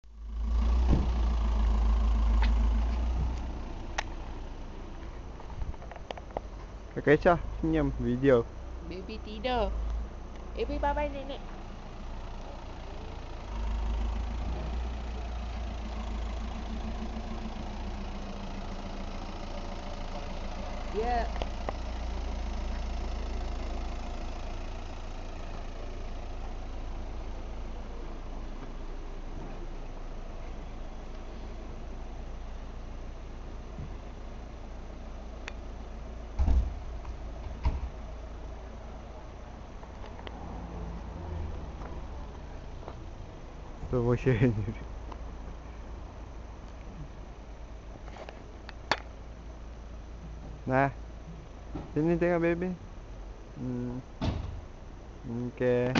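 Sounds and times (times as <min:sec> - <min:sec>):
car engine pulling away: 0:00.1 - 0:09.0, 0:09.7 - 0:55.9.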